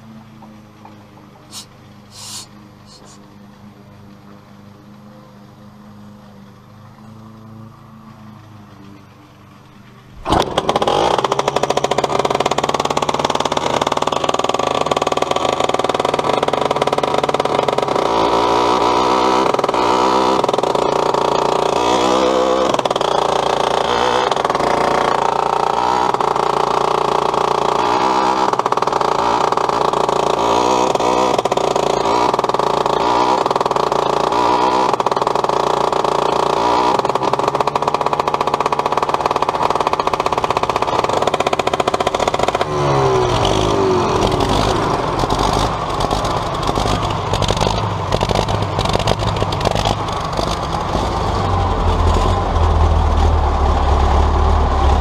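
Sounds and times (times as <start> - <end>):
deep diesel engine: 0.0 - 55.0
small engine revving: 0.0 - 55.0.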